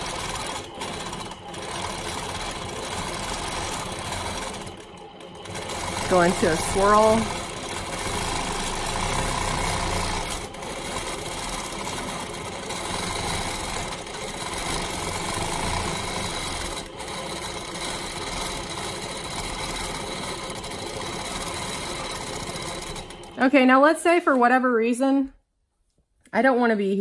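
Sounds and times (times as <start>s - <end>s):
quilting machine stitching: 0.0s - 23.8s.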